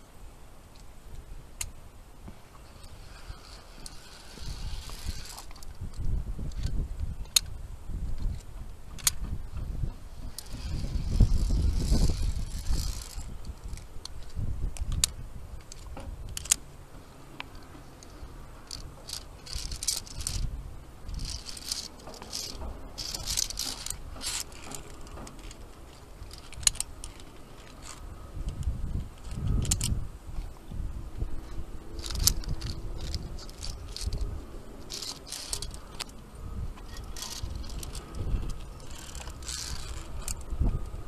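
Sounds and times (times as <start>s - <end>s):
wind rumble on microphone: 0.0s - 41.0s
carabiners rattling on steel cable: 2.6s - 7.5s, 10.2s - 16.7s, 17.5s - 30.0s, 31.4s - 40.8s.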